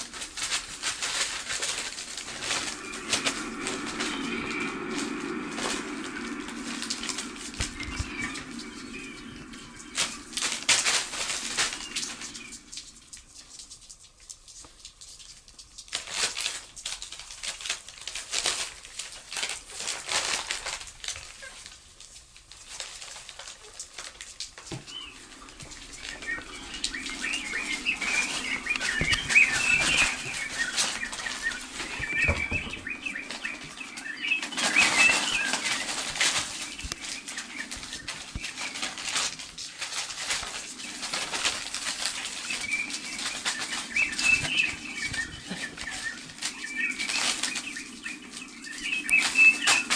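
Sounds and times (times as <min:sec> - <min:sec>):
birds chirping: 0:00.0 - 0:15.0, 0:23.5 - 0:49.9
steady low hum: 0:00.0 - 0:15.7, 0:24.3 - 0:49.9
bird wings flapping: 0:00.0 - 0:49.9.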